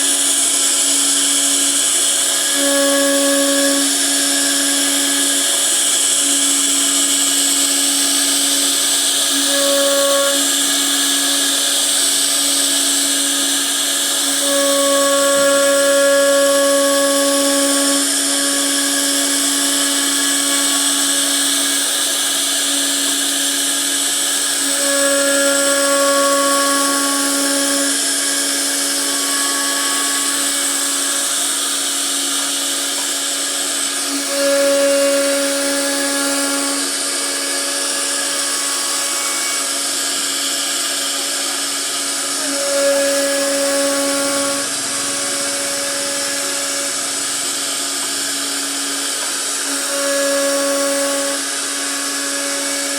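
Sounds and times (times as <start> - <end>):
router spindle cutting wood: 0.0 - 52.9.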